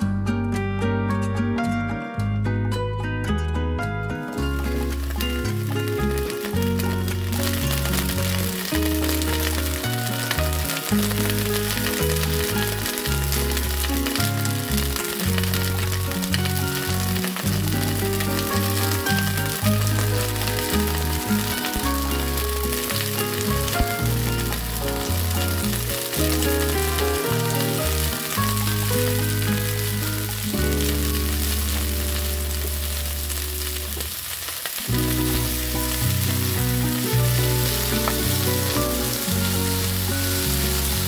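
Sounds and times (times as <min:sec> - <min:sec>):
background music with low notes: 0:00.0 - 0:34.2, 0:34.8 - 0:41.0
vegetables sizzling in a pan: 0:04.3 - 0:41.0.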